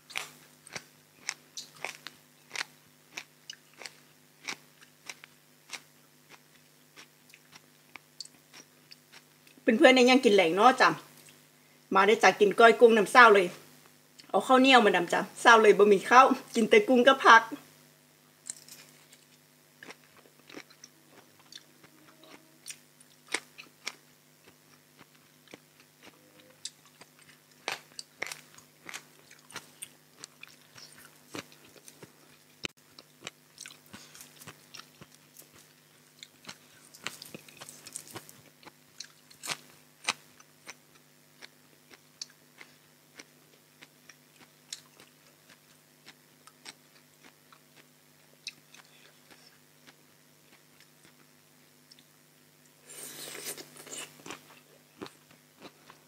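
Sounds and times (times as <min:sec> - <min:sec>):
chewing crunchy food: 0:00.0 - 0:09.6, 0:18.4 - 0:56.0.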